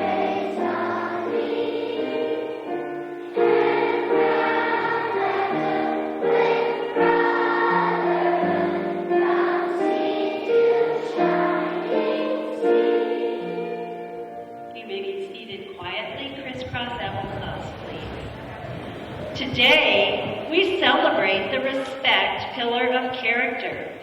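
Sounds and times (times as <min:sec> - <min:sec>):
children's choir singing: 0:00.0 - 0:22.5.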